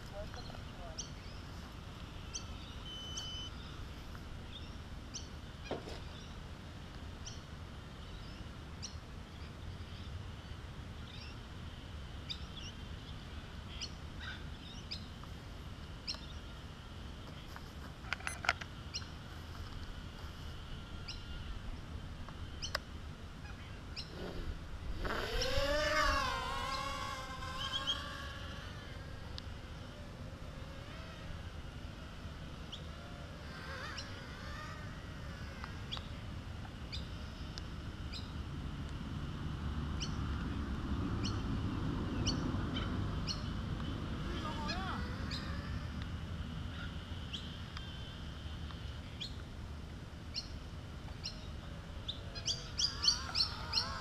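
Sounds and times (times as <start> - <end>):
birds chirping: 0.0 - 6.4, 7.2 - 38.4, 40.0 - 45.8, 51.2 - 54.0
quadcopter motors whining: 0.0 - 54.0.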